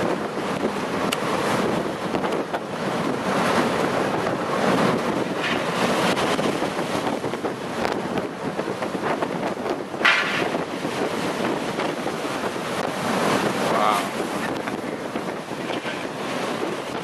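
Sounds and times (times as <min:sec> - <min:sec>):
rough sea rushing: 0:00.0 - 0:17.0
wind buffeting microphone: 0:00.0 - 0:17.0.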